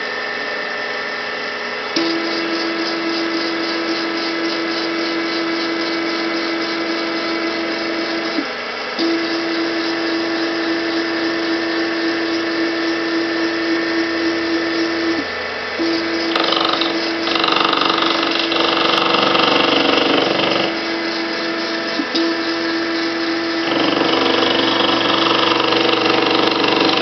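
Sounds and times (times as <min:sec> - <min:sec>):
lathe motors whining: 0:01.4 - 0:27.0.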